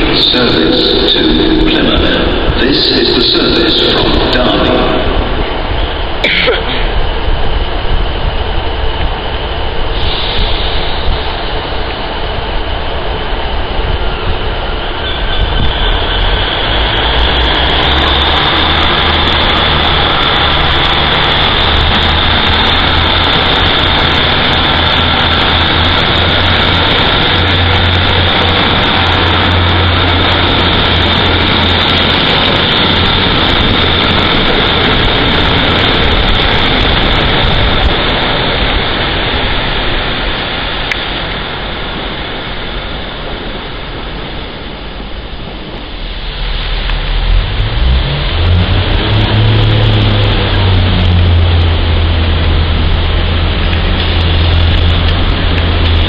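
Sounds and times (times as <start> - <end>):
diesel train engine drone: 0.0 - 56.0
high whine: 0.0 - 56.0.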